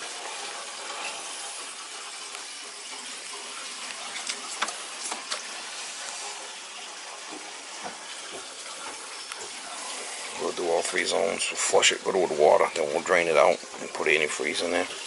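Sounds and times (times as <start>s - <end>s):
water rushing out of pipes: 0.0s - 15.0s.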